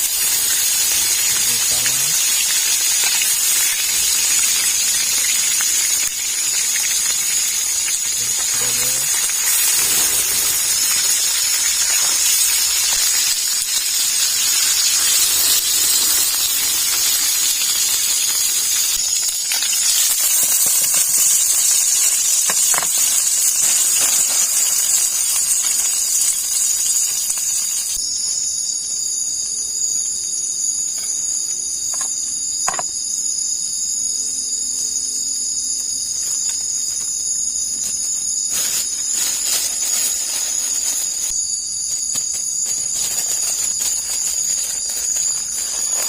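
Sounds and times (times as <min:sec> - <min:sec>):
insect chorus: 0:00.0 - 0:46.0
loud steady high hiss: 0:00.0 - 0:46.0.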